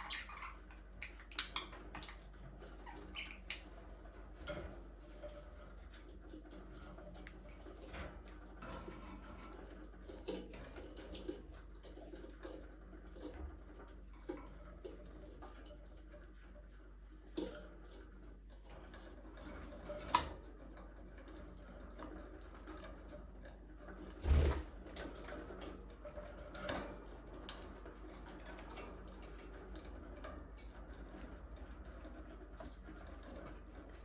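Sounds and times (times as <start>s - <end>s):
budgies clicking and scratching: 0.0s - 34.0s.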